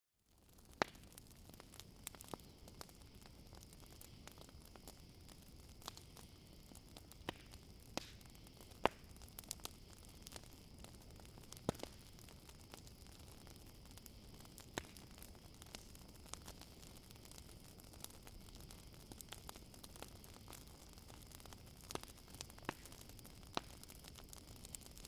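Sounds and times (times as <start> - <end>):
campfire crackling: 0.3 - 25.0
cricket trill: 1.4 - 25.0.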